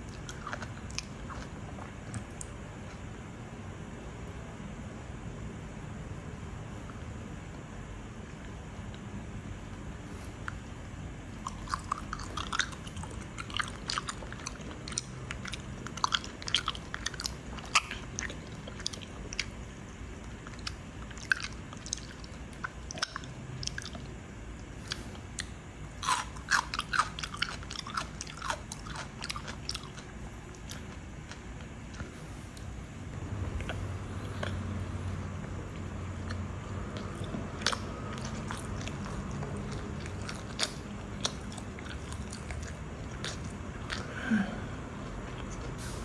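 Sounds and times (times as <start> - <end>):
chewing crunchy sandwich: 0.0 - 3.1, 11.3 - 45.8.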